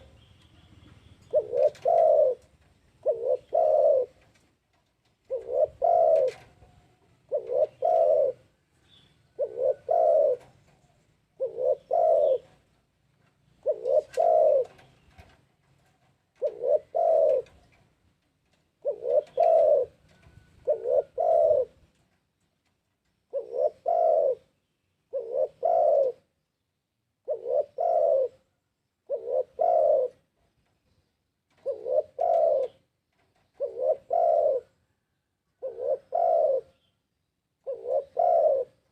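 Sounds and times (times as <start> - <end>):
dove cooing: 0.0 - 4.4, 5.1 - 15.4, 16.3 - 17.8, 18.8 - 22.0, 23.3 - 26.4, 27.2 - 30.3, 31.5 - 36.9, 37.6 - 38.9.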